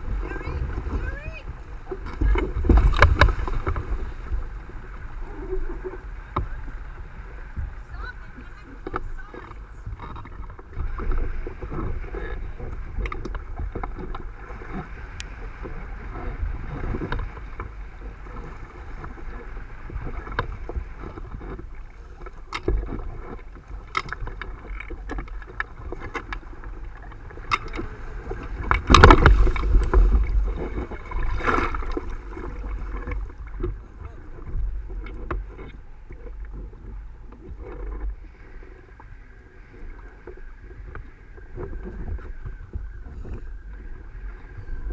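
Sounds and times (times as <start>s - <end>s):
sea slapping against a hull: 0.0s - 44.9s
wave splash: 0.0s - 44.9s
wind buffeting the microphone: 0.0s - 44.9s.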